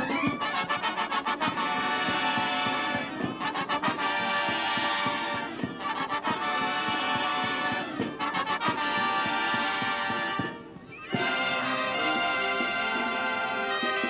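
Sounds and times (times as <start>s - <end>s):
drum beats: 0.0s - 14.0s
trombones: 0.0s - 14.0s
trumpets: 0.0s - 14.0s
tuba: 0.0s - 14.0s.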